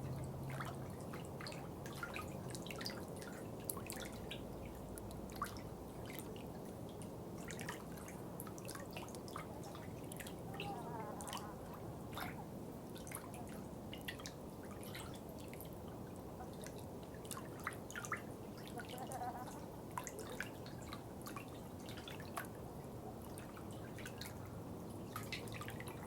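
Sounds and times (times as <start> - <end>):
low water rush: 0.0 - 26.0.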